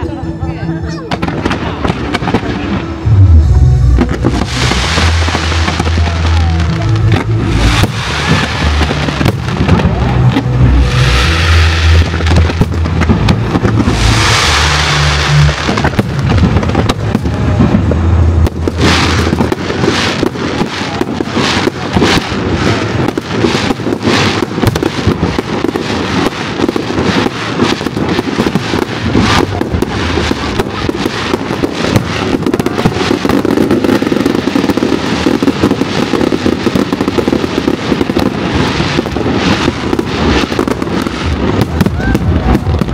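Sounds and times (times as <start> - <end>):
fireworks bursting and crackling: 0.0 - 42.9.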